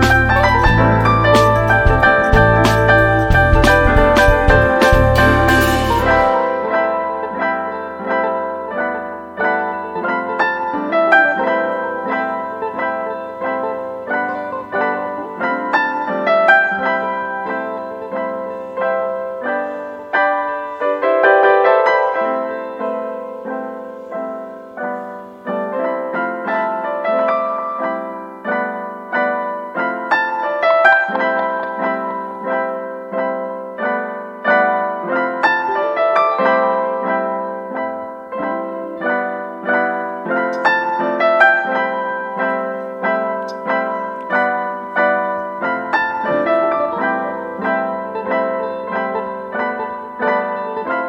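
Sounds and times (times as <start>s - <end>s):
gentle piano melody: 0.0s - 51.0s.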